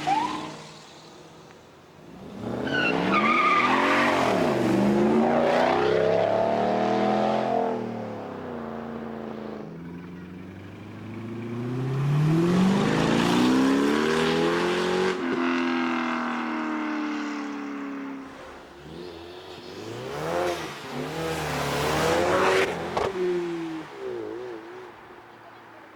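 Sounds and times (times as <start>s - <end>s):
car engine accelerating: 2.0s - 25.6s.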